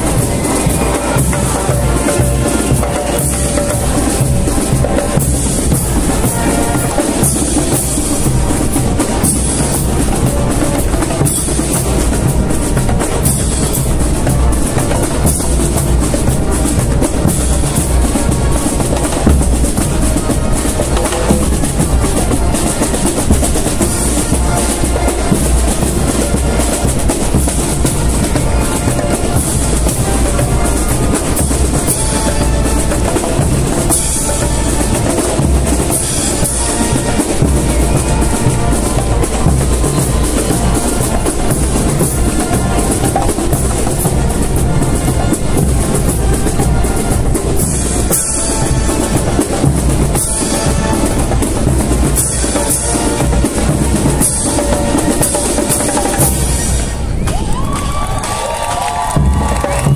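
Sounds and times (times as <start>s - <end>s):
drums beating: 0.0s - 59.9s
marching band playing: 0.0s - 59.9s.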